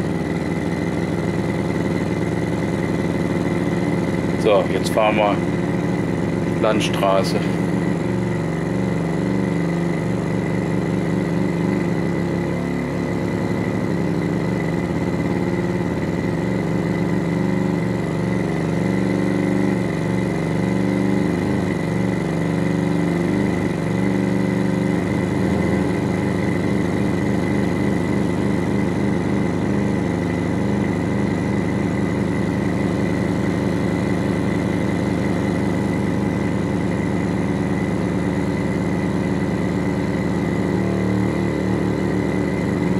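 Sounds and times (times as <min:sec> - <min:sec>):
synthesised engine drone: 0:00.0 - 0:42.9.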